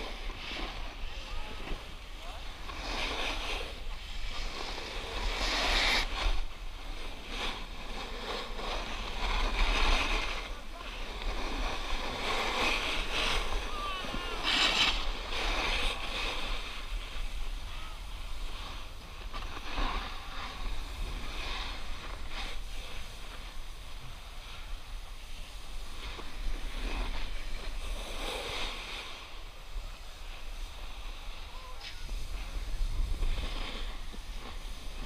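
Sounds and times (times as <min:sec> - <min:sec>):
snowboard scraping over snow: 0:00.0 - 0:35.0
wind rumble on microphone: 0:00.0 - 0:35.0.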